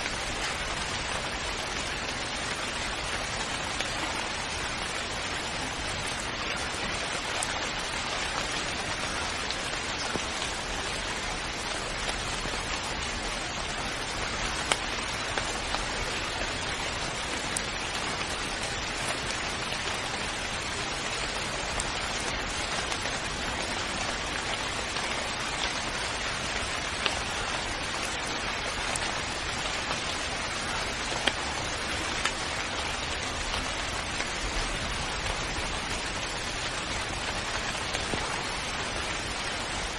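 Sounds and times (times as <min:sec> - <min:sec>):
raindrops ticking: 0:00.0 - 0:39.9
steady rain hissing: 0:00.0 - 0:39.9.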